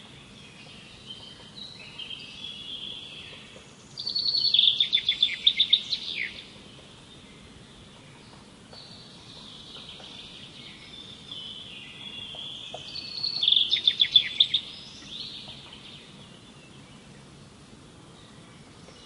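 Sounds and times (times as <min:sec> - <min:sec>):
faint background hiss: 0:00.0 - 0:19.0
songbird singing: 0:00.0 - 0:19.0.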